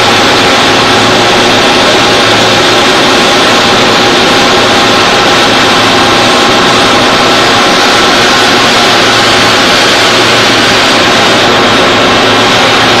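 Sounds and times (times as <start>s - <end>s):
boring mill machine running: 0.0s - 13.0s.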